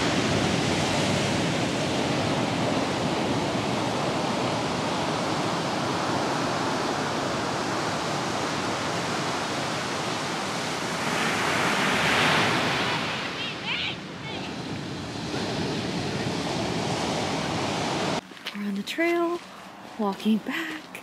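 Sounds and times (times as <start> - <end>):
ocean surf breaking on beach: 0.0 - 18.4.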